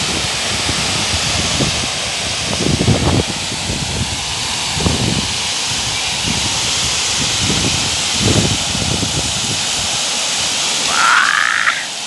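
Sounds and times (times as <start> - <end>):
wind buffeting microphone: 0.0 - 10.1
fountain water splashing: 0.0 - 12.0.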